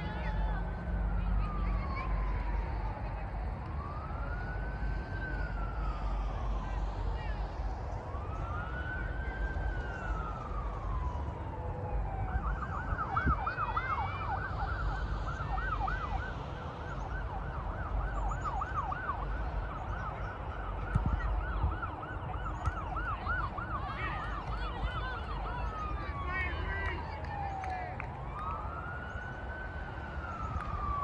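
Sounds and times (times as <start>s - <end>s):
emergency vehicle siren: 0.0s - 31.0s.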